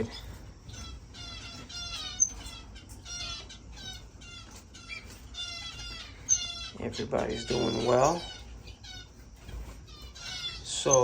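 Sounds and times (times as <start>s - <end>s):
finches calling: 0.0s - 11.0s.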